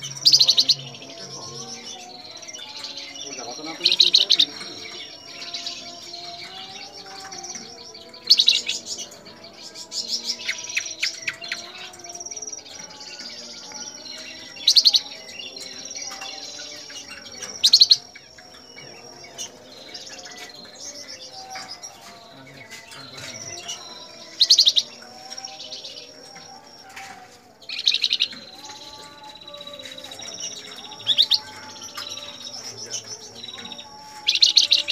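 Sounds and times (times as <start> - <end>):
bird chattering song: 0.0 - 34.9.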